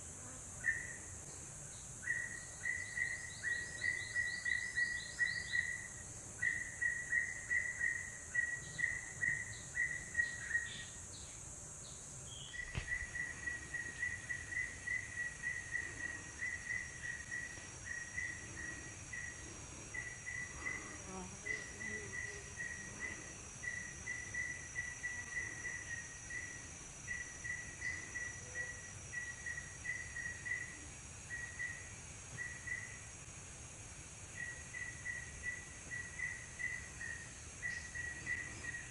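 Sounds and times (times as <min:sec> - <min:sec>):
high-pitched insect drone: 0:00.0 - 0:38.9
insect chirping: 0:00.0 - 0:38.9.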